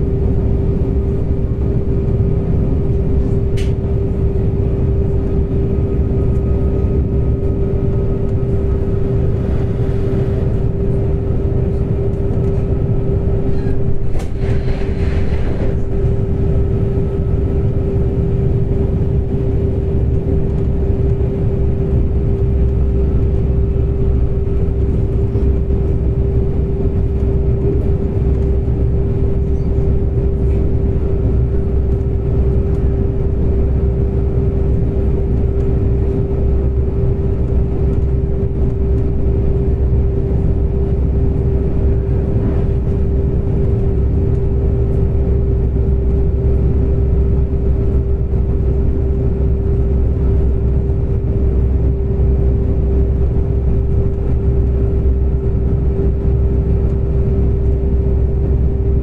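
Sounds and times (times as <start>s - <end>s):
constant train whine: 0.0s - 59.0s
train wheels rumbling on track: 0.0s - 59.0s.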